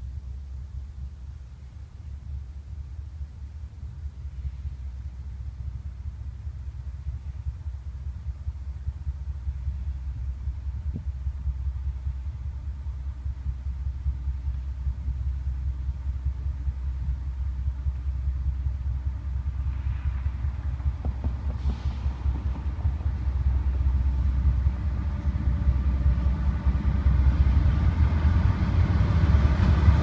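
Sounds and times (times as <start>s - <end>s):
freight train diesel locomotives rumbling: 0.0s - 30.0s.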